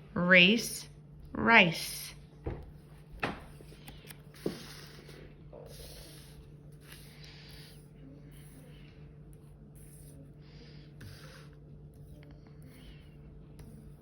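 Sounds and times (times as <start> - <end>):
steady low hum: 0.0 - 14.0
pen scratching on paper: 2.8 - 14.0.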